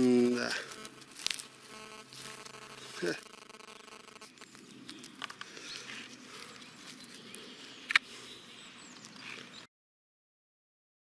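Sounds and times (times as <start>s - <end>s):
faint outdoor background: 0.0s - 9.7s.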